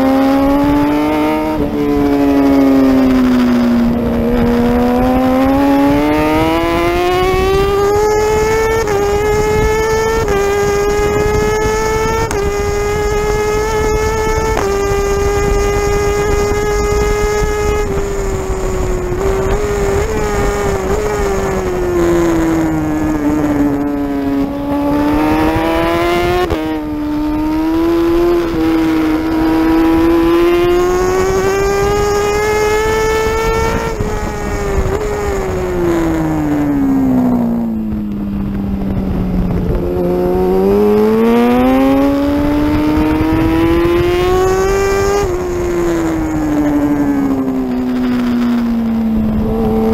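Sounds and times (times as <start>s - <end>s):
motorcycle engine at high revs: 0.0s - 49.9s
wind rush: 0.0s - 49.9s.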